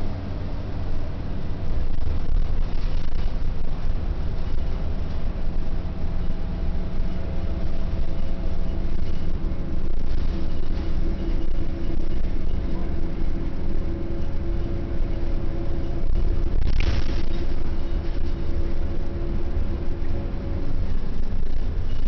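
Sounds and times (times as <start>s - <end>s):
bus engine rumble: 0.0s - 22.0s
steady hum: 0.0s - 22.0s.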